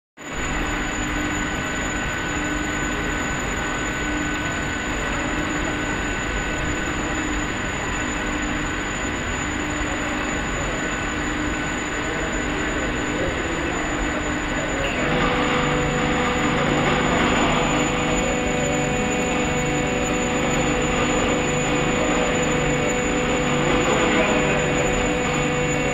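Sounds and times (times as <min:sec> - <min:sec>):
industrial machinery hum: 0:00.2 - 0:25.9
low hum: 0:00.4 - 0:25.9.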